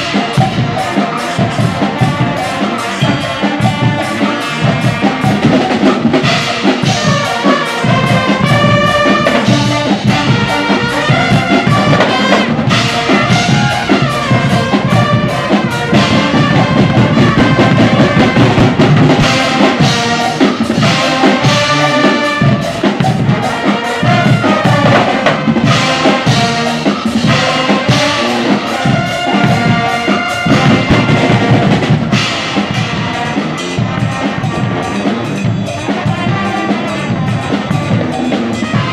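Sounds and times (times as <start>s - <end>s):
brass band playing: 0.0s - 38.9s
drums beating steady rhythm: 0.0s - 38.9s.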